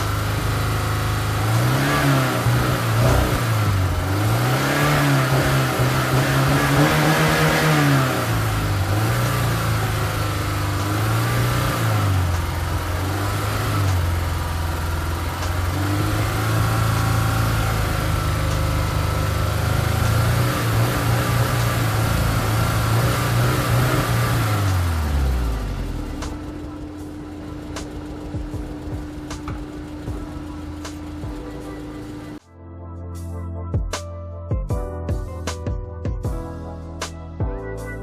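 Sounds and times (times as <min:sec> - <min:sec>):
car engine revving: 0:00.0 - 0:32.4.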